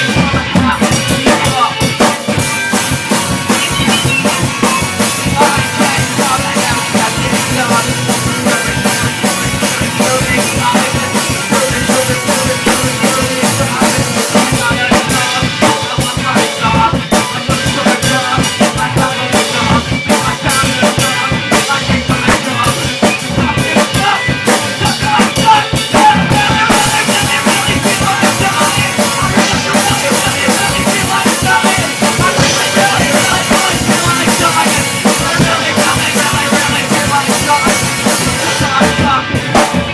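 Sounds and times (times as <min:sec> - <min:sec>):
band playing with drum kit: 0:00.0 - 0:39.9.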